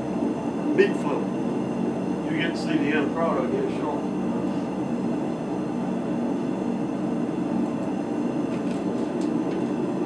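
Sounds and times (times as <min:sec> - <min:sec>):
forge fire roaring: 0:00.0 - 0:10.0.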